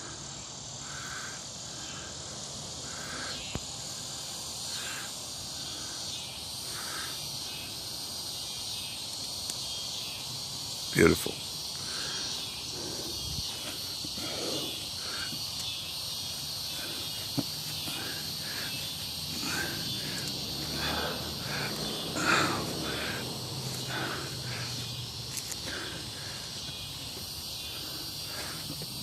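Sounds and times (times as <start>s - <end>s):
insects chirring: 0.0s - 29.0s
rustle: 0.0s - 29.0s.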